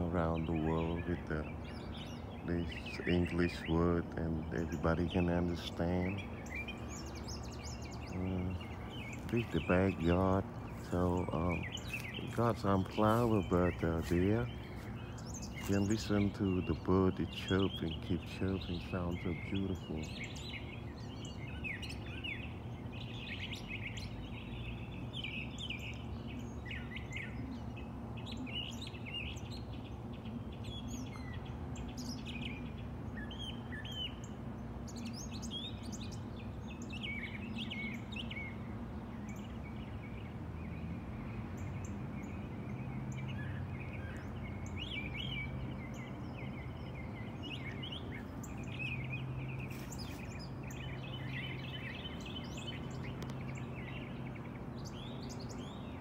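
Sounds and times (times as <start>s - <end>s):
songbirds chirping: 0.0s - 56.0s
steady low hum: 0.0s - 56.0s.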